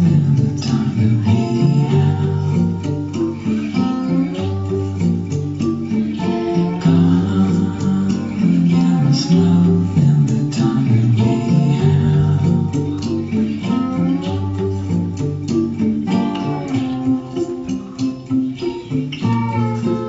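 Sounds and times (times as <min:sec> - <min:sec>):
bass line: 0:00.0 - 0:05.7, 0:06.6 - 0:20.0
person singing: 0:00.0 - 0:20.0
strummed guitar chords: 0:00.0 - 0:20.0.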